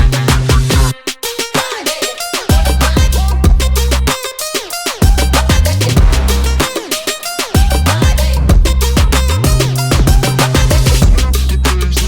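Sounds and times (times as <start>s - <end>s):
electronic hip-hop music: 0.0s - 12.0s.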